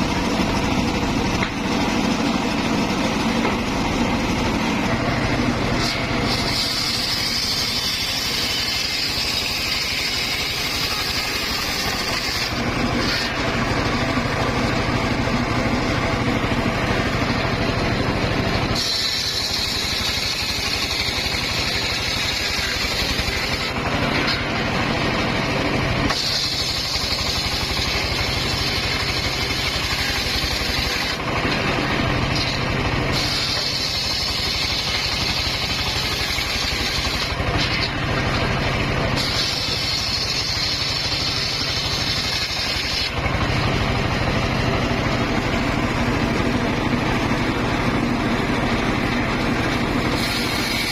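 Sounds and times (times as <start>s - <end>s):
circular saw cutting wood: 0.0s - 50.9s.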